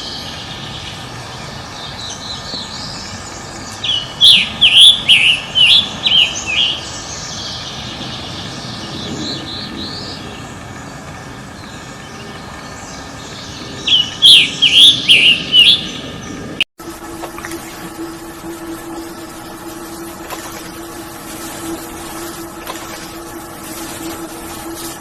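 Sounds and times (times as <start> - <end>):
songbird singing: 0.0 - 25.0
steady background hum: 0.0 - 25.0.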